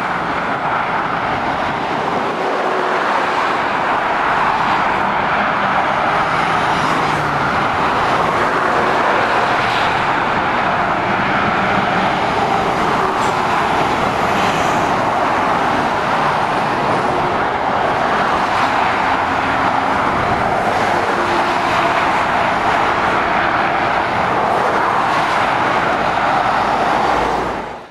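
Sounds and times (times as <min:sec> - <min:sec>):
road traffic roar: 0:00.0 - 0:27.9.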